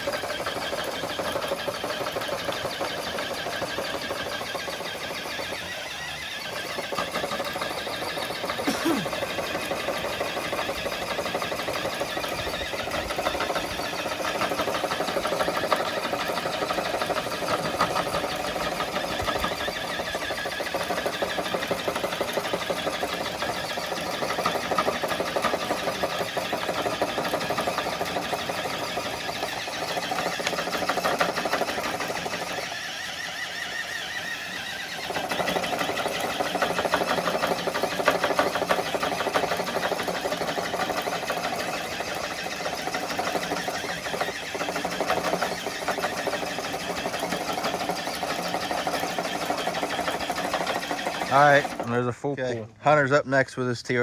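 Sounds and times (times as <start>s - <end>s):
electric motor whining under load: 0.0s - 52.0s.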